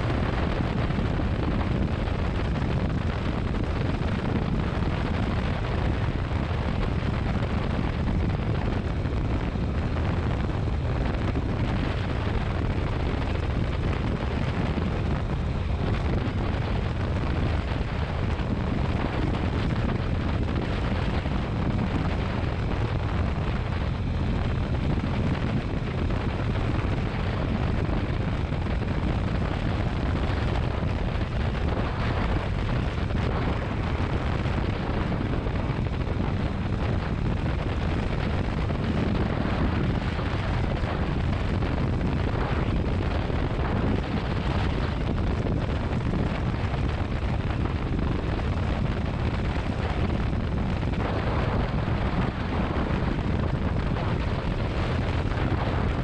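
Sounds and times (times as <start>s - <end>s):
motorcycle engine drone: 0.0s - 56.0s
wind rush on microphone: 0.0s - 56.0s.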